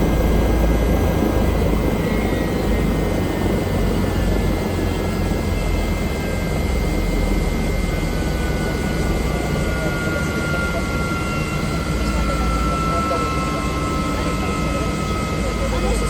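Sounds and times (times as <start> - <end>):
helicopter low drone: 0.0 - 16.0
high whine: 0.0 - 16.0.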